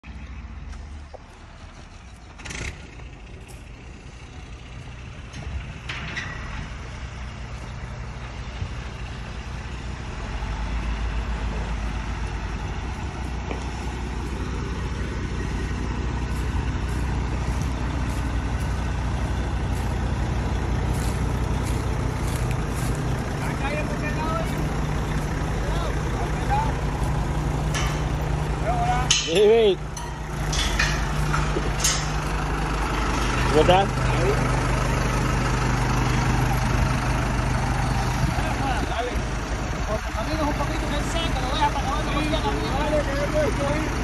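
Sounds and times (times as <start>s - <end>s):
diesel engine rumbling: 0.0s - 44.0s.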